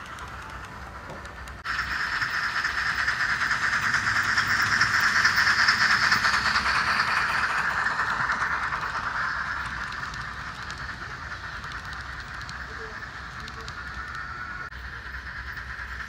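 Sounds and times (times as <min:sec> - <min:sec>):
model steam locomotive chuffing: 0:00.0 - 0:16.0.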